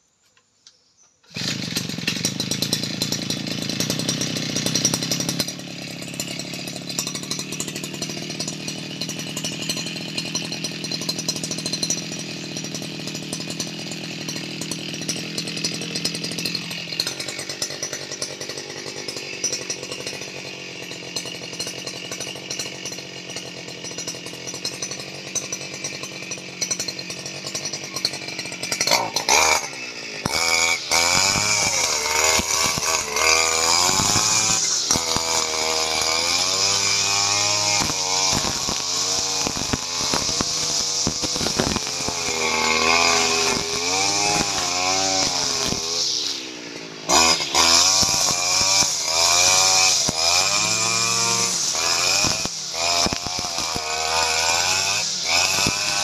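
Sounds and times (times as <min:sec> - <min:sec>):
brush cutter engine running: 0:01.2 - 0:56.0.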